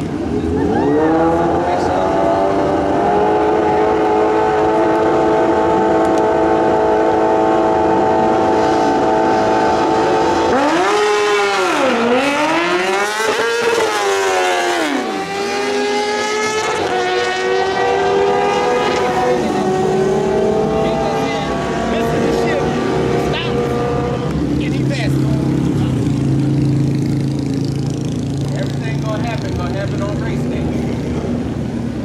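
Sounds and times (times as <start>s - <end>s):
motorcycles revving and accelerating: 0.0s - 32.0s.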